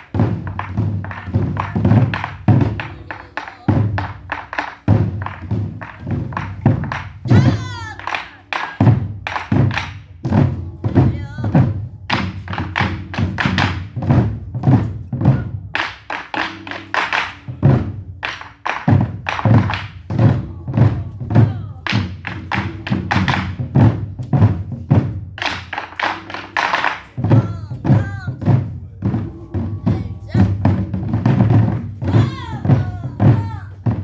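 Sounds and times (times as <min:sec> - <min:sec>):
drum ensemble beating barrel drums: 0:00.0 - 0:34.0.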